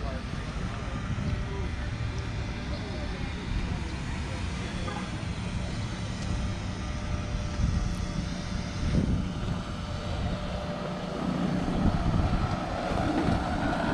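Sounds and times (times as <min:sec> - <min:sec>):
car engine rumbling: 0:00.0 - 0:13.9.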